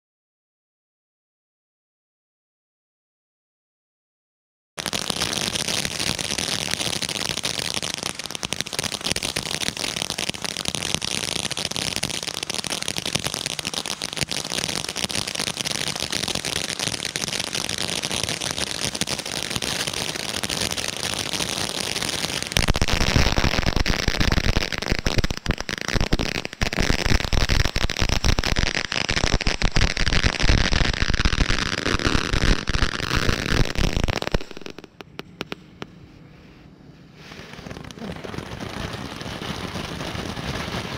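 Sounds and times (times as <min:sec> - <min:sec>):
firework fountain hissing: 0:04.8 - 0:35.8, 0:37.2 - 0:40.9
crackles and pops: 0:04.8 - 0:36.0, 0:37.5 - 0:40.9.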